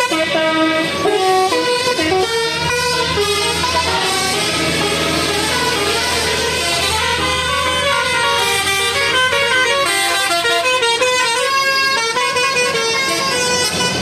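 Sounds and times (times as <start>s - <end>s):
musical bus horn playing a tune: 0.0s - 14.0s.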